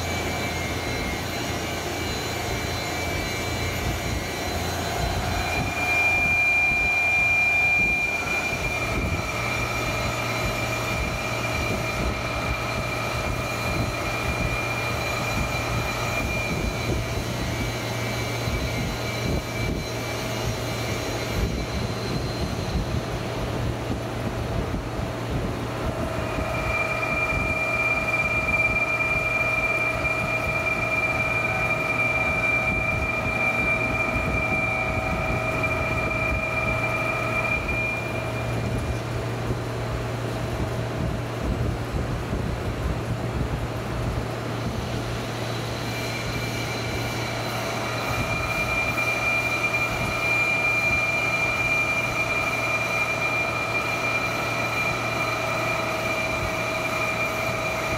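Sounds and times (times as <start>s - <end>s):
high even whine: 0.0s - 57.9s
machine mechanical hum: 0.0s - 57.9s.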